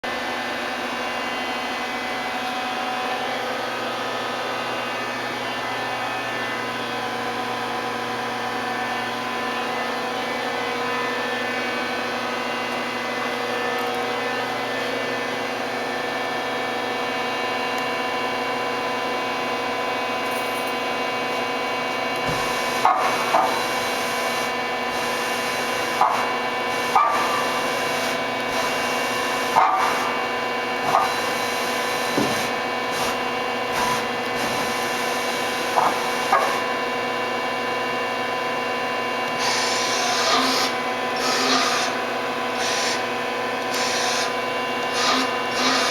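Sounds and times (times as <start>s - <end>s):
machine humming and whining: 0.1s - 45.9s.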